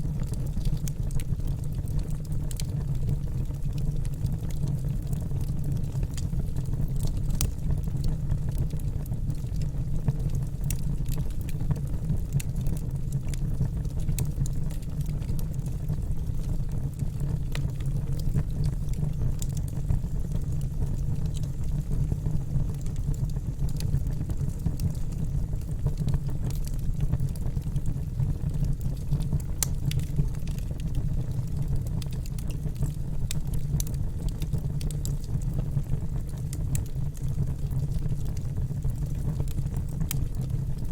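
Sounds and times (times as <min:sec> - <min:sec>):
burning wood crackling and popping: 0:00.0 - 0:40.9
campfire flames rumbling: 0:00.0 - 0:40.9.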